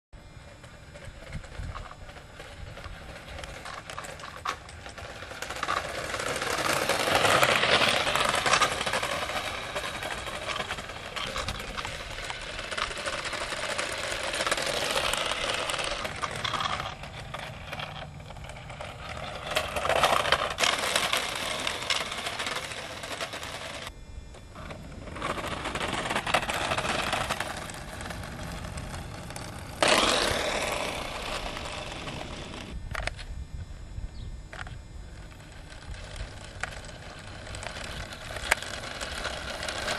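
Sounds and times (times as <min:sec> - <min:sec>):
toy car electric motor whirring: 0:01.0 - 0:24.0, 0:24.6 - 0:33.3, 0:34.5 - 0:39.9.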